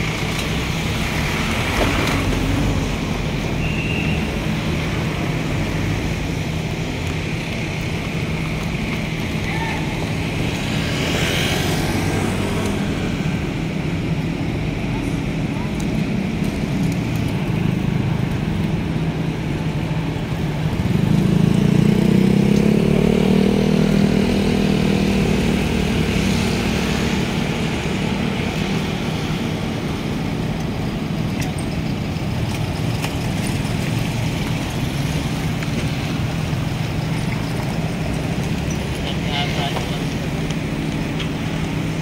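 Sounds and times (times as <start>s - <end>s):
street traffic noise: 0.0s - 42.0s
vehicle engine humming: 0.0s - 42.0s.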